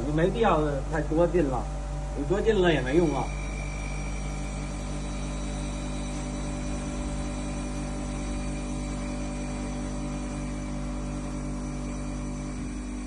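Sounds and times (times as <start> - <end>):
grinding machine humming: 0.0 - 13.0.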